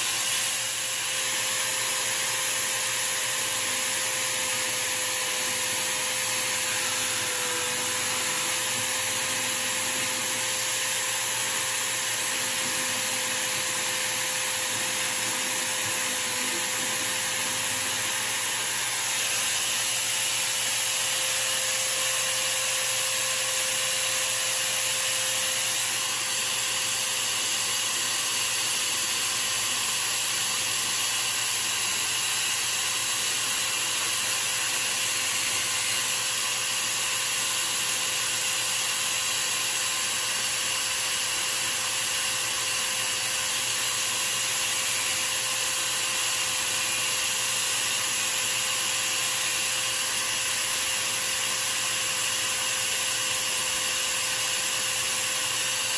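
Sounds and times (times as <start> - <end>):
band saw cutting: 0.0 - 55.9
filing spinning workpiece: 0.0 - 55.9
power tool motors running: 0.0 - 55.9.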